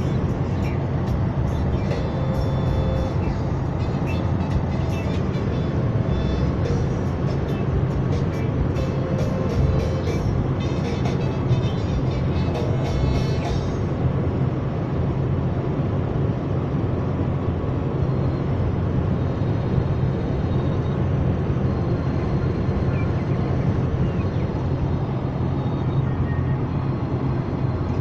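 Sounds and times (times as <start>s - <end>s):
car engine hum: 0.0s - 28.0s
tyre and road noise: 0.0s - 28.0s
wind: 0.0s - 28.0s.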